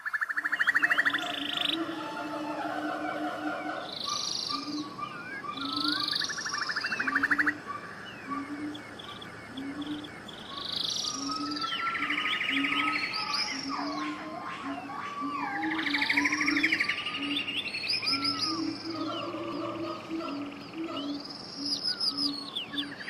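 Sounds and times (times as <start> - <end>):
birds chirping and whistling: 0.0 - 23.0
rapid buzzy bird trills: 0.0 - 23.0.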